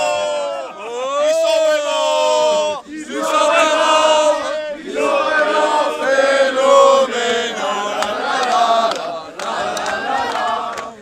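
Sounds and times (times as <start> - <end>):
men singing a chant: 1.8 - 11.0.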